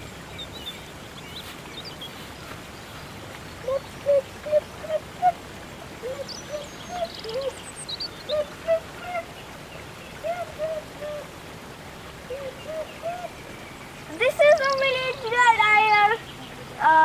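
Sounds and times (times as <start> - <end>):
bird chirps: 0.0 - 5.4, 6.0 - 11.2, 12.3 - 16.6.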